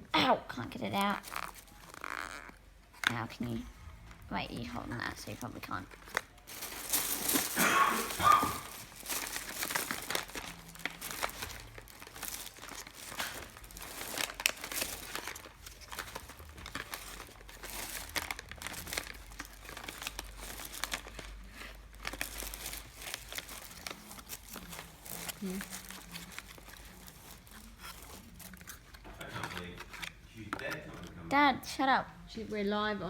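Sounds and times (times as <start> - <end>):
plastic packaging crinkling: 0.8 - 31.0.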